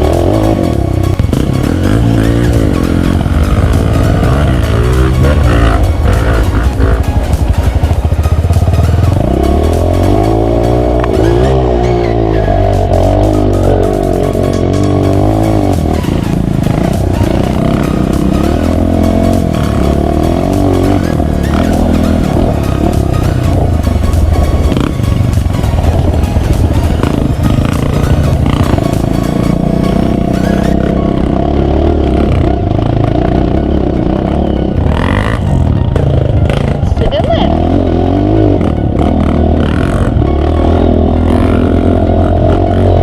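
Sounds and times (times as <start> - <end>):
vehicle engine revving: 0.0 - 43.0.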